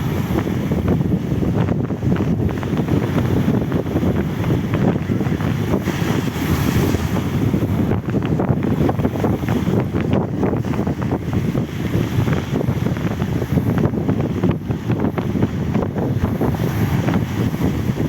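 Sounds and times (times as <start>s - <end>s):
sea surf: 0.0s - 18.0s
wind buffeting microphone: 0.0s - 18.0s.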